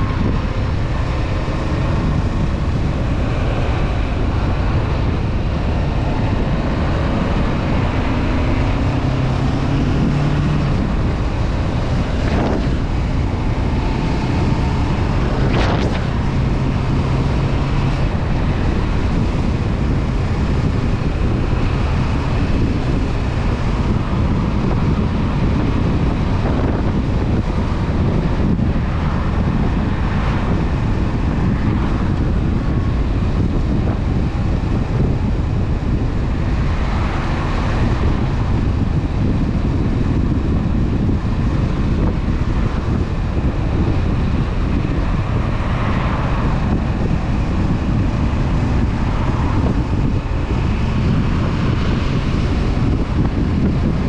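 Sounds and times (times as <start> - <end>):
motorcycle engine cruising: 0.0 - 54.0
wind noise on microphone: 0.0 - 54.0.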